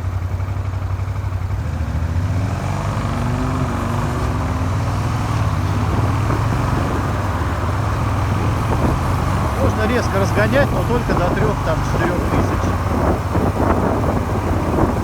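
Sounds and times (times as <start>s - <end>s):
motorcycle engine running: 0.0s - 15.0s
wind and road rush: 0.0s - 15.0s.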